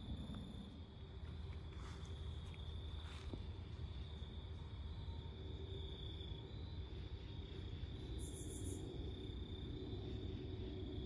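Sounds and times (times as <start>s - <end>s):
crickets trilling: 0.0s - 11.0s
low rumble: 0.0s - 11.0s.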